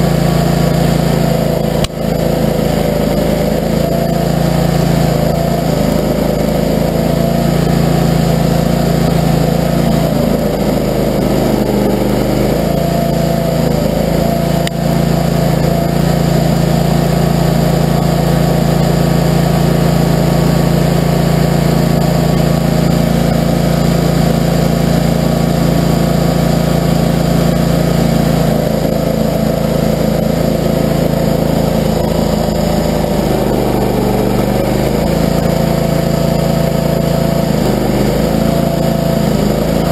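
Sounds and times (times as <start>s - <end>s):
stump grinder engine running hard: 0.0s - 39.9s.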